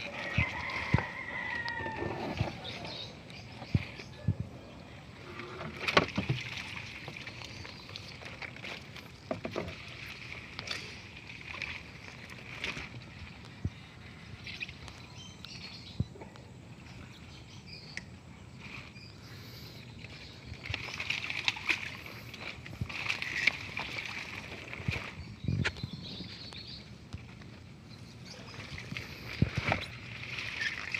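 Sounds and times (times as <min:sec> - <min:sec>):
leaves and stems rustling: 0:00.0 - 0:04.3, 0:05.2 - 0:13.7, 0:17.7 - 0:30.9
water dripping and sloshing: 0:00.0 - 0:30.9.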